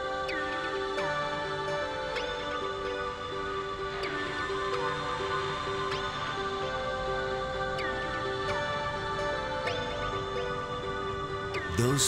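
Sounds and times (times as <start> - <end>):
soft sustained music tones: 0.0 - 12.0.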